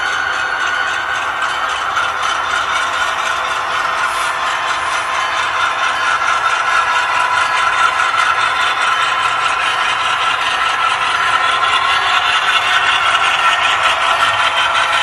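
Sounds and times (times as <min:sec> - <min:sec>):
model locomotive hum and rattle: 0:00.0 - 0:15.0.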